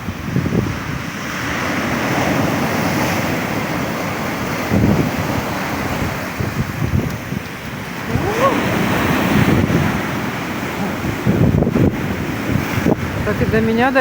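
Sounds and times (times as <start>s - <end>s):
storm waves breaking: 0.0s - 14.0s
wind buffeting microphone: 0.0s - 14.0s.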